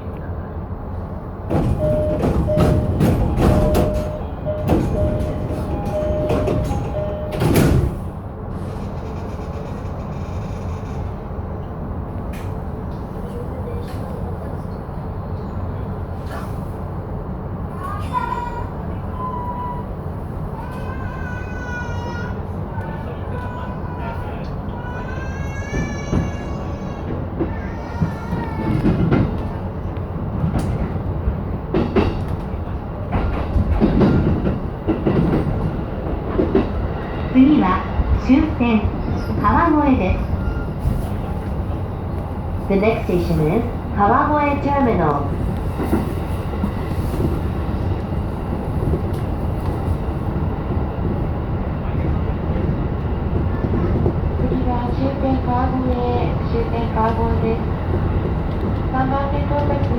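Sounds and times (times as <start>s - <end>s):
electric train rumbling: 0.0s - 59.9s.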